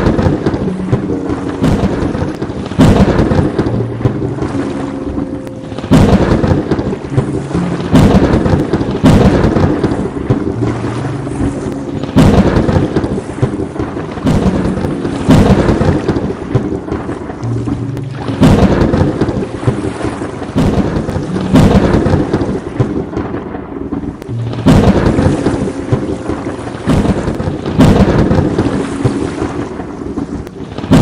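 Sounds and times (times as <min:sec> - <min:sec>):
steady rain: 0:00.0 - 0:31.0
thunder cracking and rumbling: 0:00.0 - 0:31.0.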